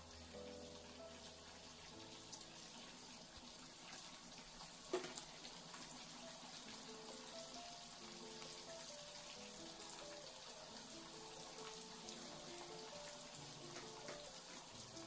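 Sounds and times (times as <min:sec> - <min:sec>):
oil bubbling and crackling: 0:00.0 - 0:15.0
soft background music: 0:00.0 - 0:15.0.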